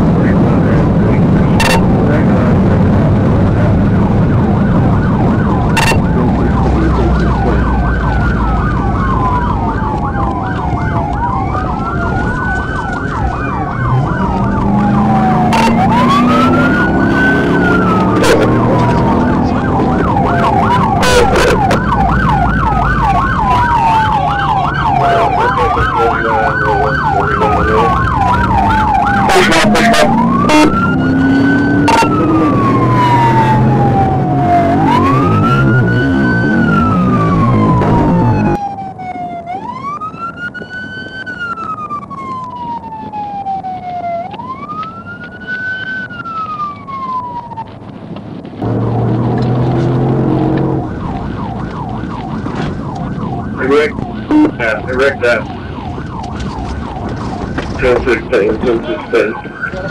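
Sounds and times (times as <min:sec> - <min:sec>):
car engine and road noise: 0:00.0 - 0:59.9
police siren yelp and wail: 0:00.0 - 0:59.9.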